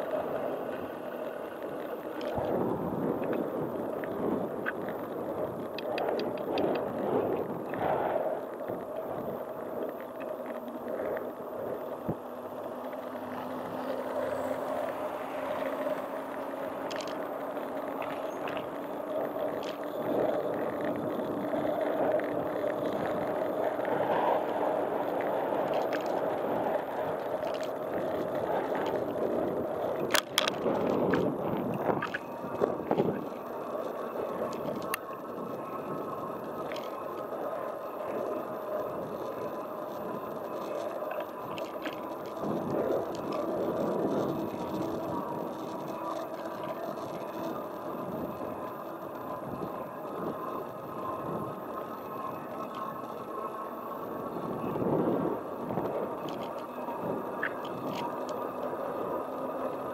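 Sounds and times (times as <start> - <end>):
steady hum: 0.0 - 59.9
wheels rolling on pavement: 0.0 - 59.9.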